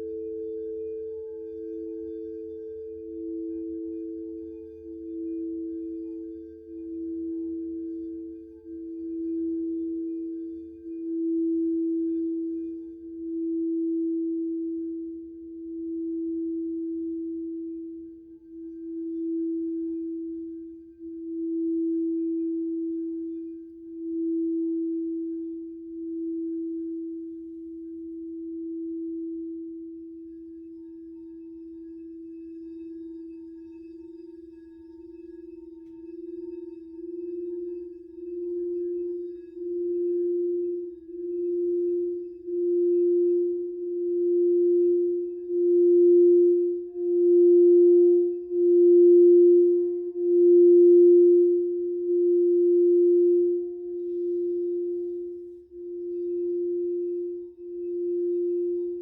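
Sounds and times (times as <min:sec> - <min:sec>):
higher singing bowl tone: 0:00.0 - 0:59.0
singing bowl low tone: 0:00.0 - 0:59.0.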